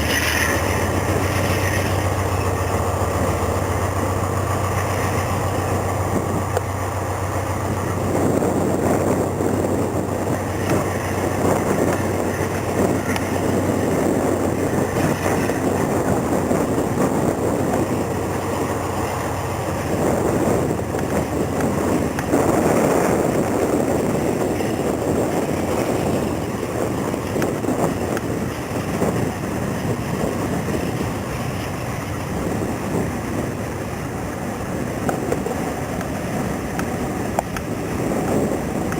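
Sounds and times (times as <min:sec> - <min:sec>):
diesel locomotive idling hum: 0:00.0 - 0:38.9
freight train cars rumbling: 0:00.0 - 0:38.9.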